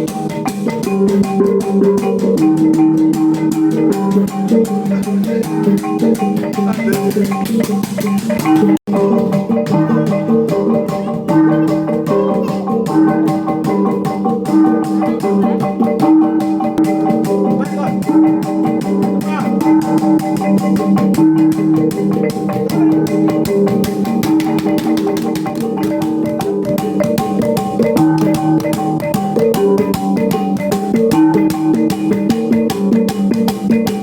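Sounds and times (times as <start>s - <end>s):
gong ensemble playing: 0.0s - 33.2s.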